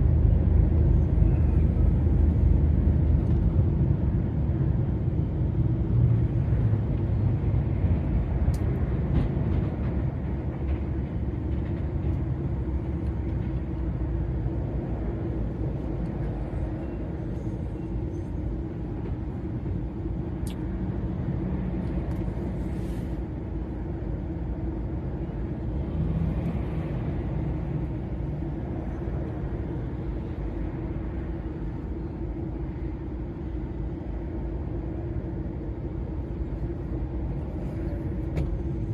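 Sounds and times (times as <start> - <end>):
tyre and road rumble: 0.0 - 32.9
lorry diesel engine droning: 0.0 - 38.9.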